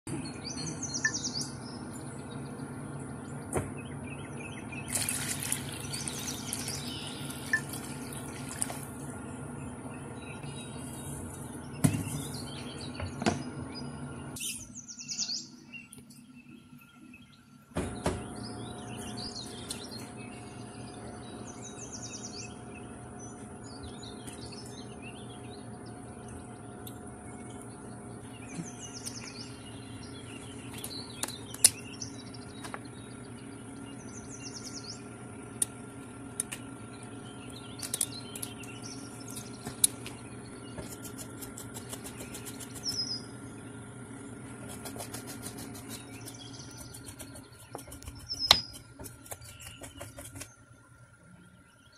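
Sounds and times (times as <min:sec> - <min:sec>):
low mechanical hum: 0:00.1 - 0:51.9
small birds chirping: 0:00.1 - 0:51.9.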